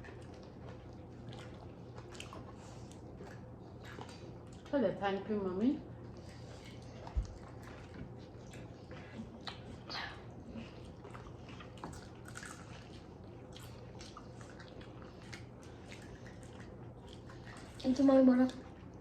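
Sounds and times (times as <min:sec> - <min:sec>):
wet chewing and lip smacks: 0:00.0 - 0:04.7, 0:06.0 - 0:19.0.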